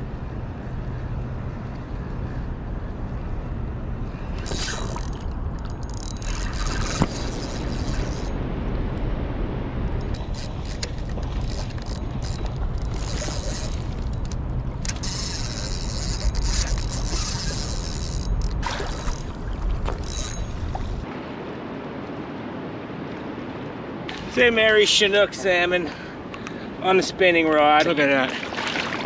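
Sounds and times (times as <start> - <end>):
wind rumbling on microphone: 0.0 - 26.8.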